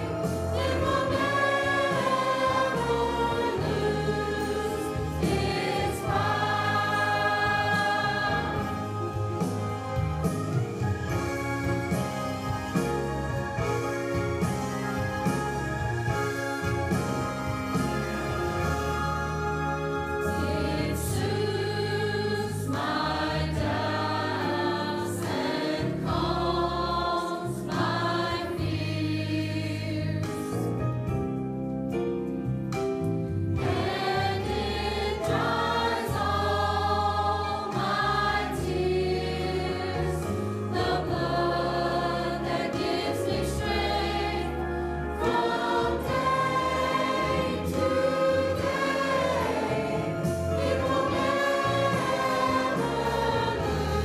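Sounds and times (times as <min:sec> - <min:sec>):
choir singing a hymn: 0:00.0 - 0:10.3, 0:11.8 - 0:30.6, 0:33.5 - 0:54.0.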